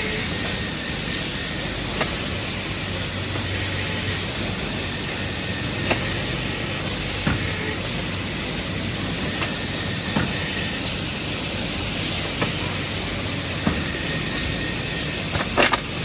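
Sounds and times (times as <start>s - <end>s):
tube bending machine hissing: 0.0s - 16.0s.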